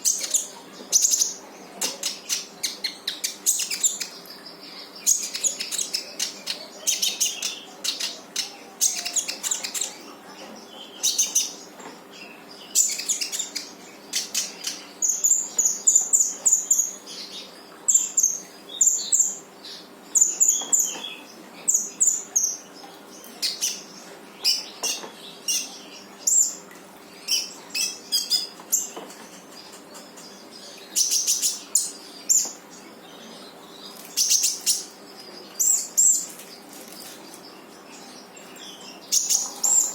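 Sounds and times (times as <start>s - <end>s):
bird chirping and trilling: 0.0s - 39.9s.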